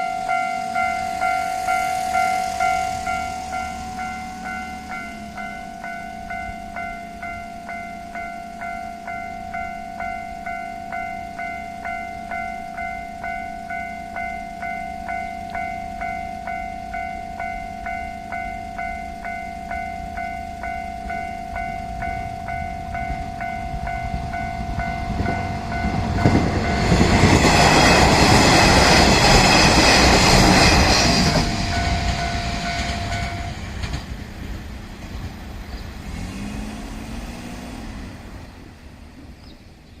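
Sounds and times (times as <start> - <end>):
diesel railcar passing: 0.0 - 40.0
level-crossing warning bell ringing: 0.0 - 40.0.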